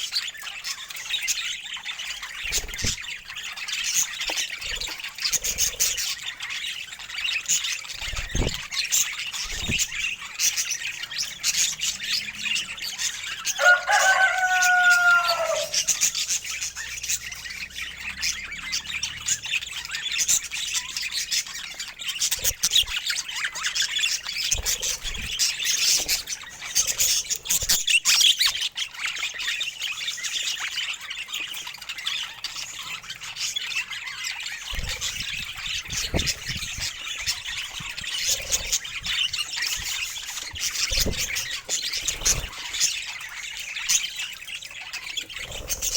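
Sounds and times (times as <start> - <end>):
budgies chattering and chirping: 0.0 - 45.9.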